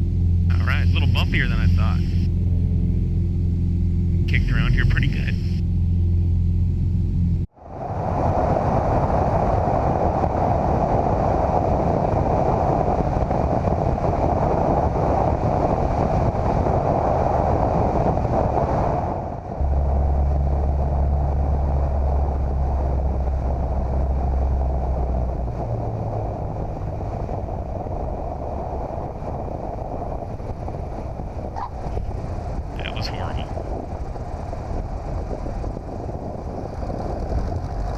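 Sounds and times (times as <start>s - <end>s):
deep low rumble: 0.0s - 37.9s
light aircraft engine and propeller: 0.0s - 37.9s
rushing airflow: 0.0s - 37.9s.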